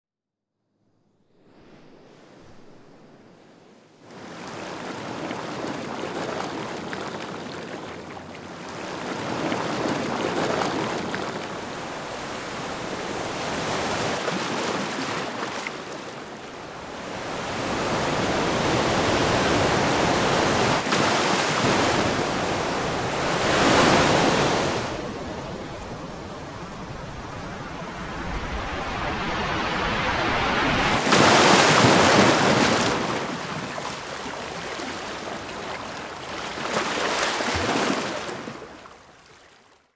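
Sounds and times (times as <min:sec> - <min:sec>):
waves surging over rocks: 0:04.4 - 0:39.0.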